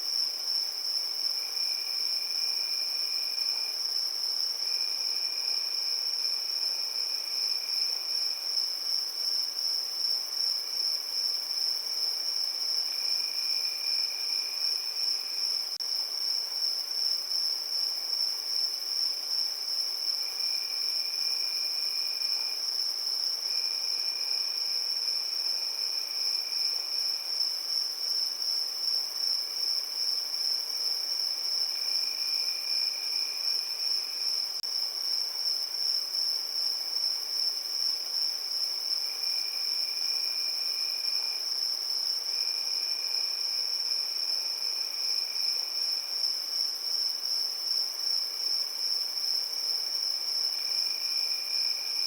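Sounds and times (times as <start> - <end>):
fainter lower insect trill: 0.0 - 52.0.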